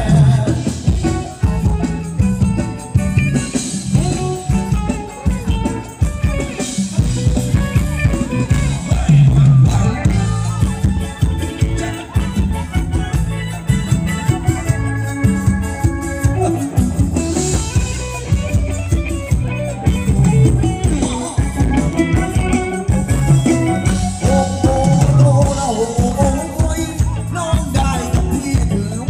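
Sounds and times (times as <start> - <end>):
live dance band over pa system: 0.0 - 29.0
steady drum beat: 0.0 - 29.0.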